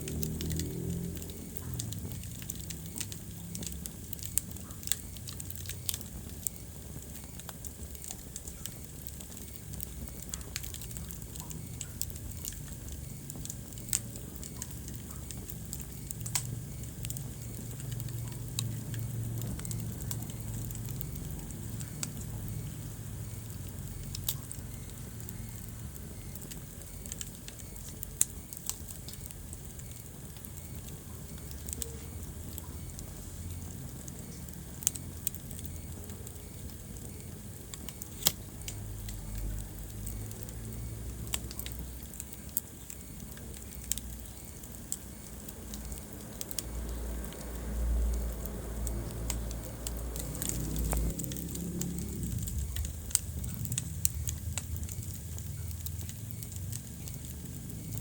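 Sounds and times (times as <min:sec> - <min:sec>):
low steady rumble: 0:00.0 - 0:58.0
sharp pops of fire: 0:00.0 - 0:58.0
wood fire crackling: 0:00.0 - 0:58.0.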